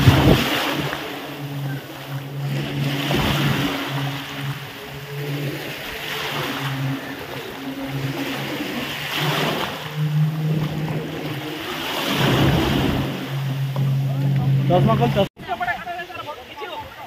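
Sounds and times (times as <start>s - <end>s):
boat engine humming: 0.0s - 17.0s
sea water rushing: 0.0s - 17.0s
wind: 0.0s - 17.0s.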